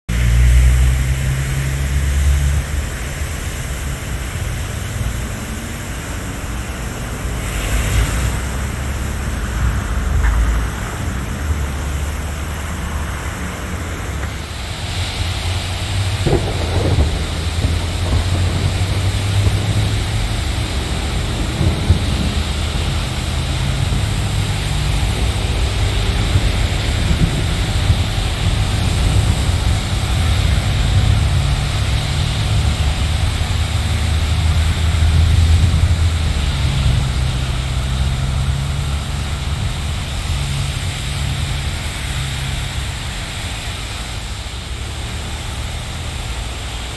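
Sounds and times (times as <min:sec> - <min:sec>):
road traffic rumble: 0:00.1 - 0:46.9
floodwater gushing from drain: 0:00.2 - 0:46.9
wind buffeting microphone: 0:02.8 - 0:42.9.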